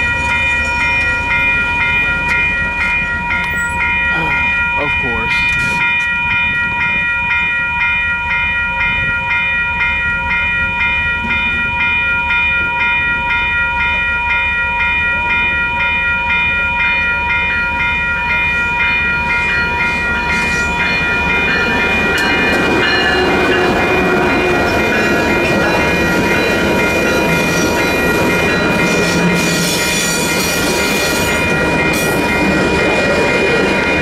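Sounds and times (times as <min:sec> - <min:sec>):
approaching train rumble: 0:00.0 - 0:34.0
railroad crossing bell ringing: 0:00.0 - 0:34.0.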